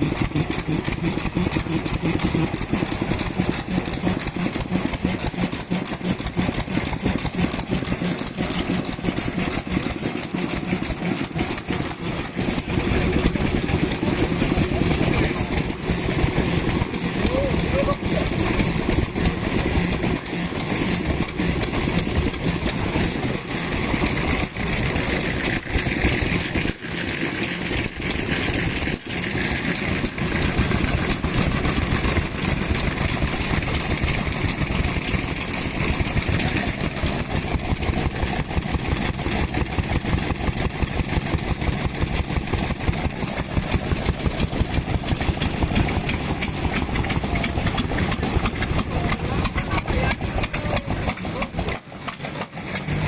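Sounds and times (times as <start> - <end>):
kerosene engine running: 0.0 - 53.0.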